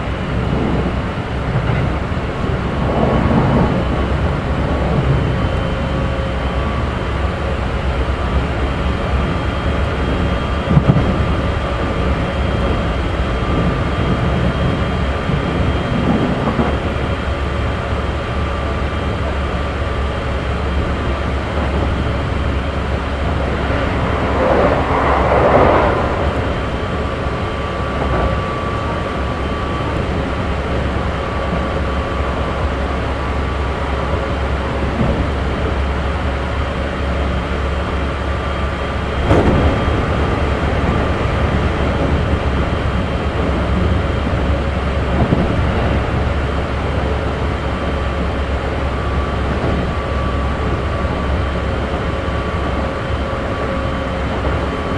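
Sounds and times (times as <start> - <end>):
train wheels rumbling on track: 0.0 - 54.9.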